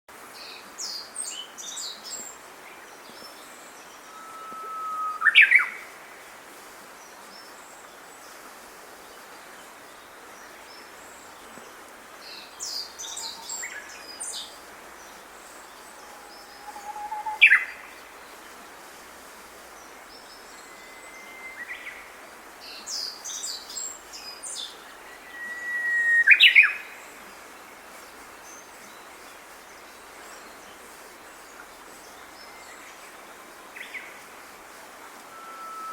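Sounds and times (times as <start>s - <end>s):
steady hiss: 0.1s - 35.9s.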